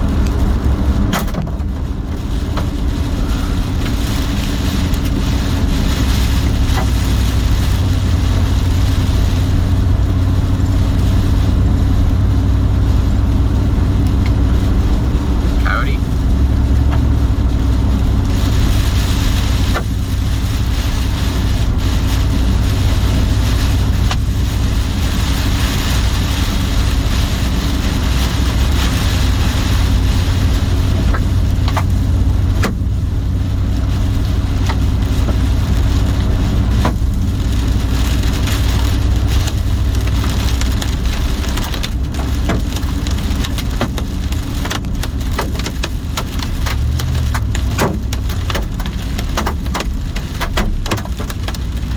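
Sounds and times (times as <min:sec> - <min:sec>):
hail and rain drumming on vehicle: 0:00.0 - 0:51.9
hailstones cracking on vehicle: 0:00.0 - 0:51.9
vehicle low rumble: 0:00.0 - 0:51.9.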